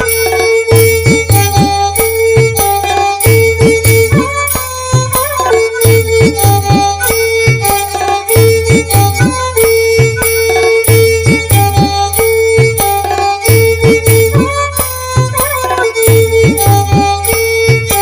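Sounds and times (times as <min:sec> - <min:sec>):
drum rhythm: 0:00.0 - 0:18.0
held melody line: 0:00.0 - 0:18.0.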